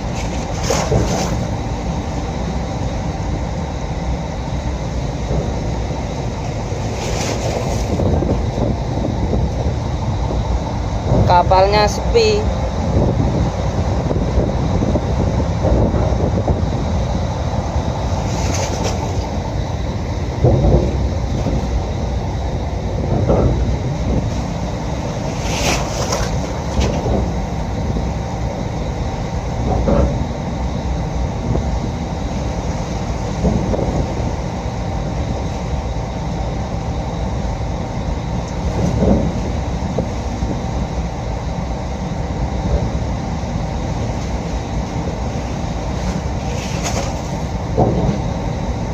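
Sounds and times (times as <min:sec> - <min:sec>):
ship engines rumbling: 0:00.0 - 0:48.9.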